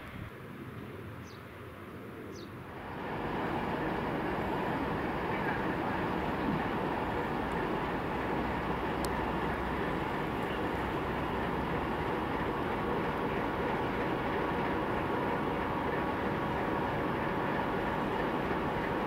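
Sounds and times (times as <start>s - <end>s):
diesel locomotive engine running: 2.6s - 19.0s.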